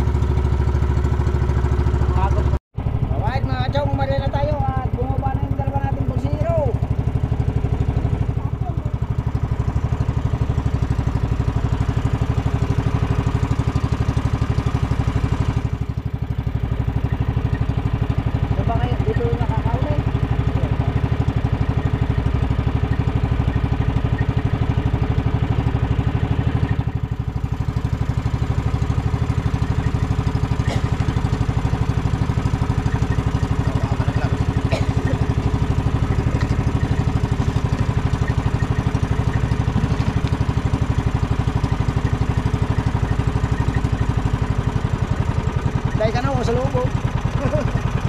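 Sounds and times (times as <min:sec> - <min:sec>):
boat engine chugging: 0:00.0 - 0:48.0.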